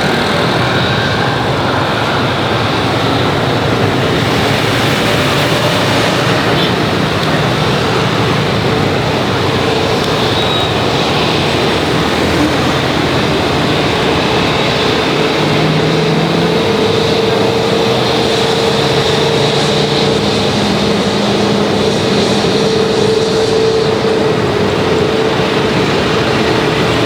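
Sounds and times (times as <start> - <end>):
jet engine rushing: 0.0 - 27.0.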